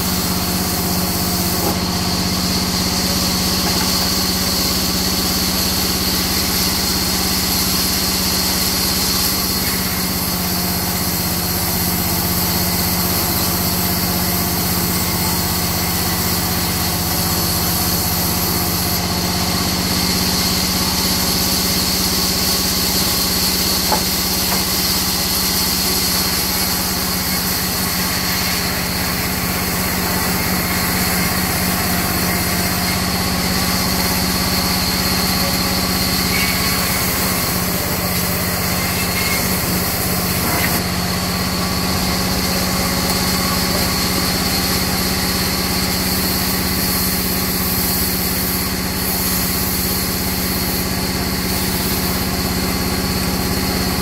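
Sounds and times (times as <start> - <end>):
band saw machine hum: 0.0 - 54.0
saw blade hissing through wood: 0.0 - 54.0.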